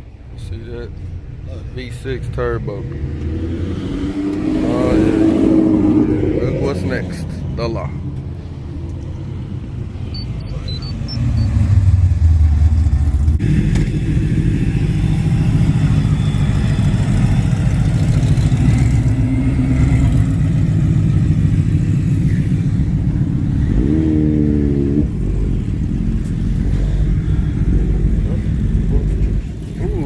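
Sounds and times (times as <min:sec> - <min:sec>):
car engine idling: 0:04.3 - 0:30.0.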